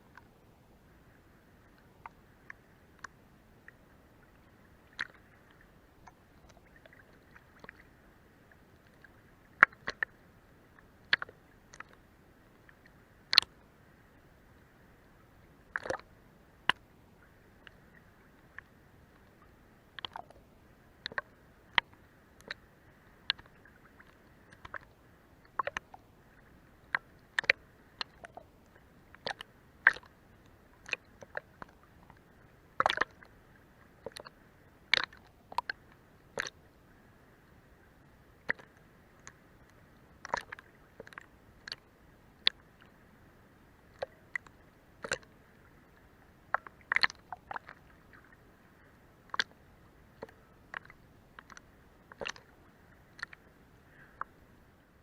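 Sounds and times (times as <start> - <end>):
faint steady hiss: 0.0 - 55.0
water lapping against boat hull: 0.0 - 55.0.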